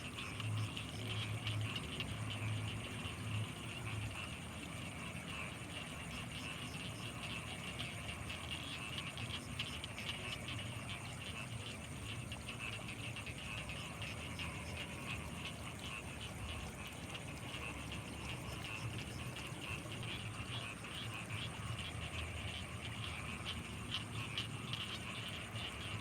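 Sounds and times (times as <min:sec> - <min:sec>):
frogs calling: 0:00.0 - 0:26.0.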